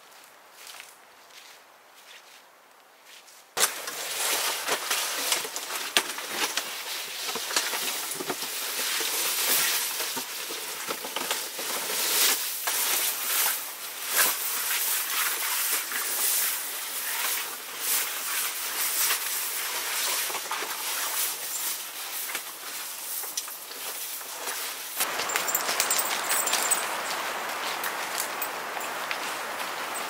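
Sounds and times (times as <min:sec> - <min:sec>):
rustling and crackling of twigs: 0:00.0 - 0:30.0.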